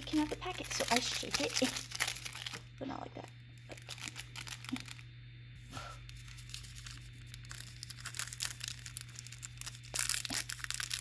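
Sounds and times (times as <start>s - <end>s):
seasoning packet crinkling: 0.0s - 2.7s, 3.7s - 5.0s, 6.1s - 11.0s.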